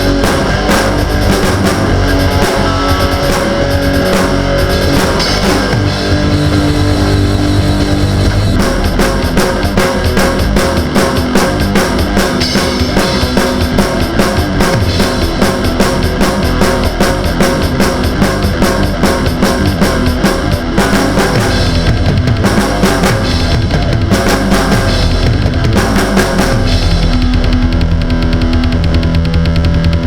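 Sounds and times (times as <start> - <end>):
loud heavy metal music: 0.0 - 30.0.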